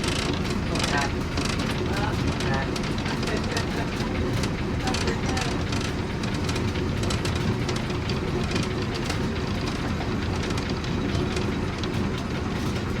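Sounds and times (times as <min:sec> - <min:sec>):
rattling clicks: 0:00.0 - 0:12.9.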